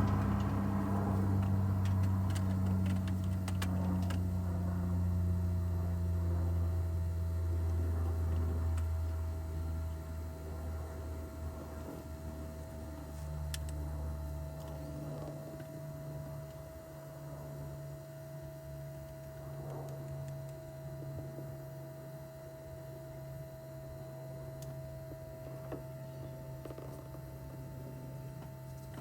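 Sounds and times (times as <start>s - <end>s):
air pump electrical hum: 0.0s - 29.0s.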